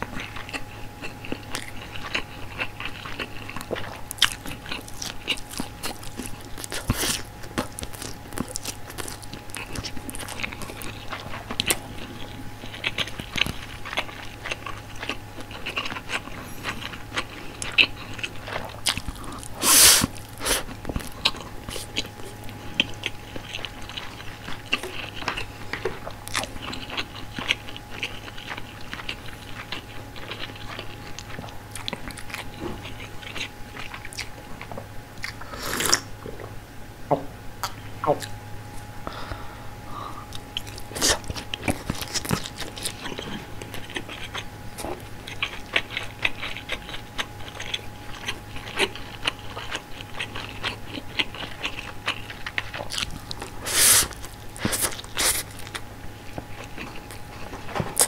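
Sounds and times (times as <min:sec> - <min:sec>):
close-miked chewing: 0:00.0 - 0:36.6, 0:37.6 - 0:58.0.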